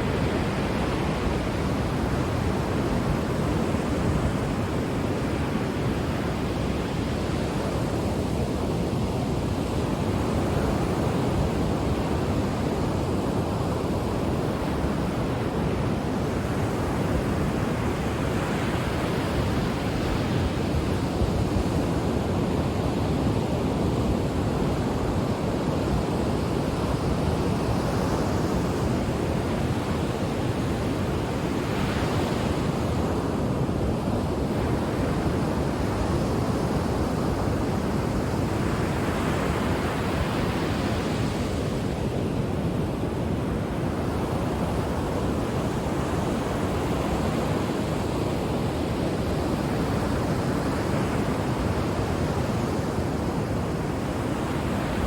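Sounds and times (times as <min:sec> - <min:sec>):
waves breaking on shore: 0:00.0 - 0:55.0.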